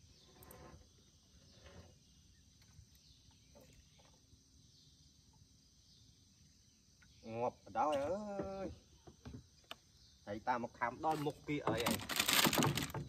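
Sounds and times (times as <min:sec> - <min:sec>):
high-pitched insect hum: 0:00.0 - 0:13.0.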